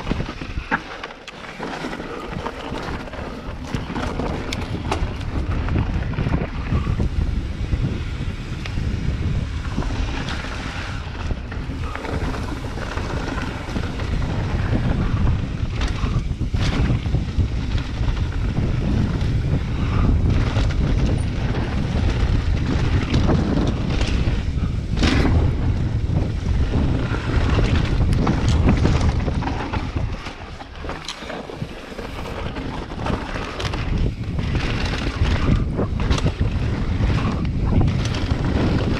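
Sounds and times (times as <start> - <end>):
bike rattling over rocks: 0.0 - 38.9
bike tyres on gravel: 0.0 - 38.9
wind buffeting microphone: 0.0 - 38.9.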